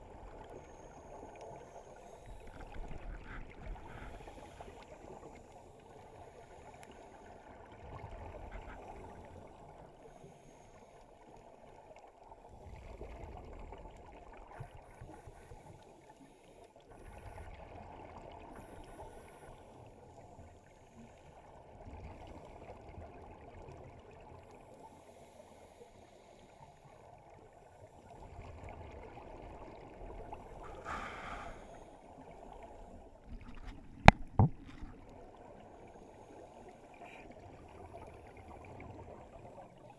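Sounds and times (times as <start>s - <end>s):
muffled underwater hiss: 0.0s - 39.9s
scuba exhaled bubbles gurgling: 0.0s - 39.9s.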